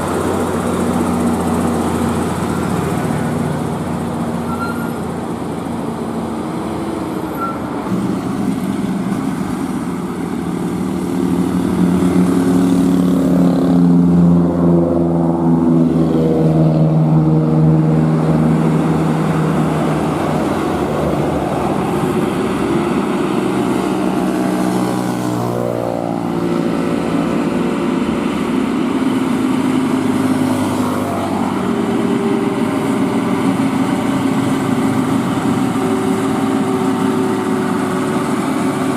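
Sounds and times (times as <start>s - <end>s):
heavy diesel truck engine: 0.0s - 38.9s.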